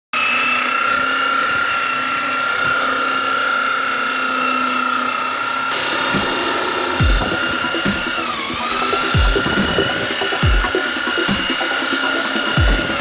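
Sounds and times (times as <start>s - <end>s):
belt sander whine: 0.2s - 13.0s.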